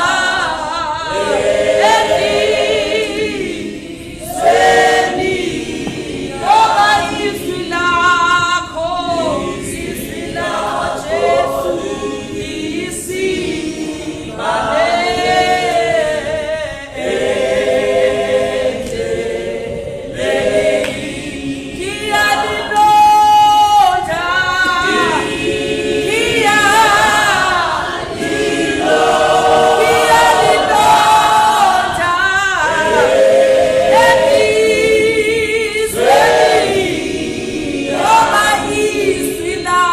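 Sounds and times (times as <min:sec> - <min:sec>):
group singing without instruments: 0:00.0 - 0:39.9.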